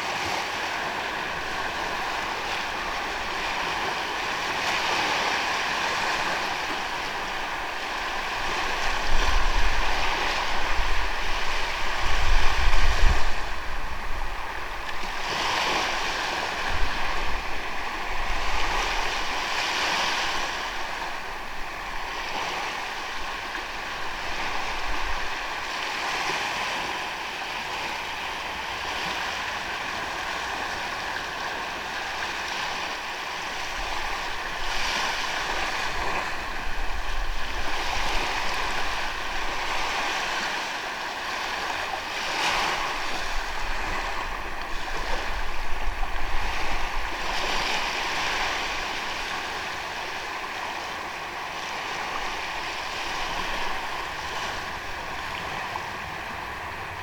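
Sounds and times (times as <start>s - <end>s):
sea waves washing on beach: 0.0s - 57.0s
wind rumbling on microphone: 0.0s - 57.0s.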